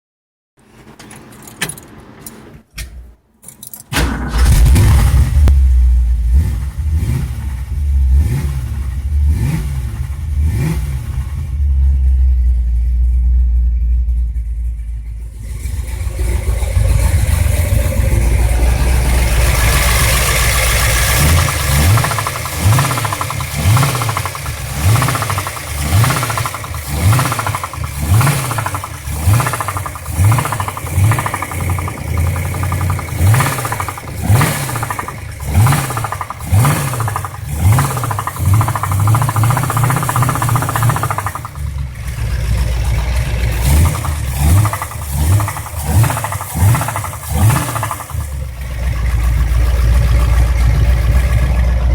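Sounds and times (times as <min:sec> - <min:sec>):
engine running with knocking: 0:06.9 - 0:51.9.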